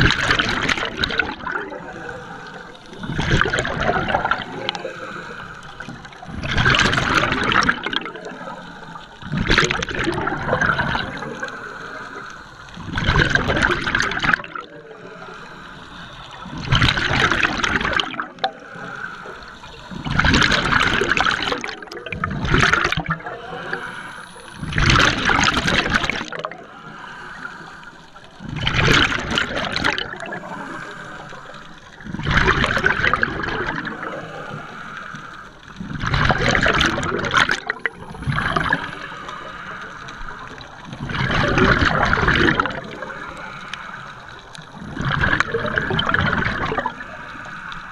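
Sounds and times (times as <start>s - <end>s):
exhaled bubbles rushing underwater: 0.0s - 47.9s.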